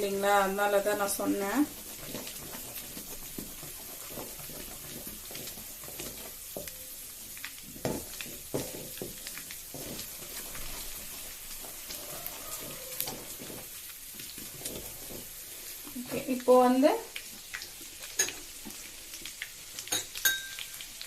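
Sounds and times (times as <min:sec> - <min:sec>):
stirring knocks: 0:00.0 - 0:18.8
paste sizzling in a pan: 0:00.0 - 0:21.0.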